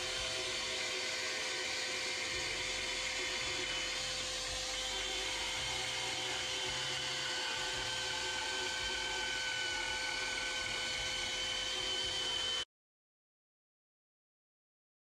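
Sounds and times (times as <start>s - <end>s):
bandsaw running: 0.0s - 12.6s
dust extraction fan: 0.0s - 12.6s.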